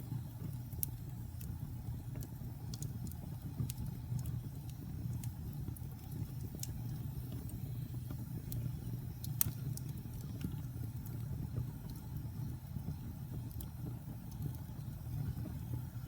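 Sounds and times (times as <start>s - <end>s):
fire rumbling: 0.0s - 16.0s
wood crackling and popping: 0.1s - 16.0s.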